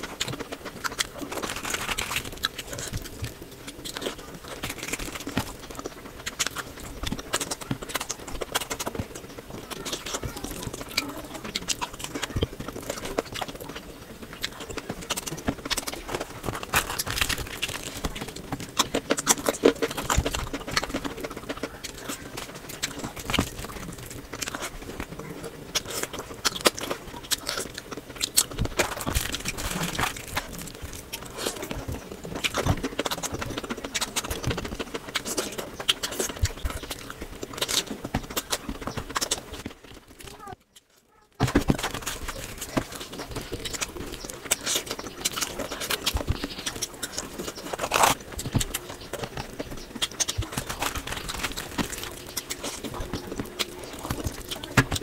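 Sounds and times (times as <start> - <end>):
wet chewing and lip smacking: 0.0 - 55.0.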